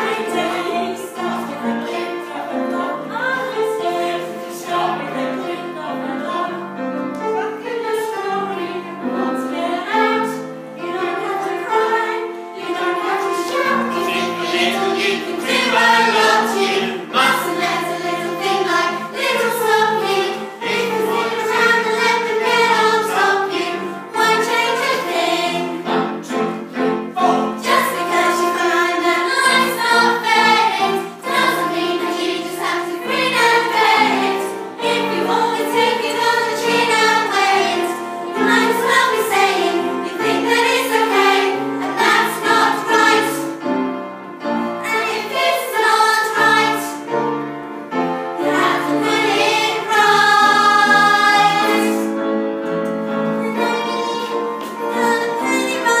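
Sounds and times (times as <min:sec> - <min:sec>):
women's choir singing: 0:00.0 - 0:43.7, 0:44.4 - 0:52.3, 0:53.0 - 0:56.0.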